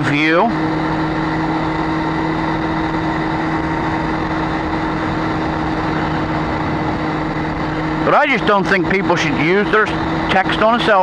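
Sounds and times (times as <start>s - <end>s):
motorcycle engine hum: 0.0s - 11.0s
wind and road noise: 0.0s - 11.0s.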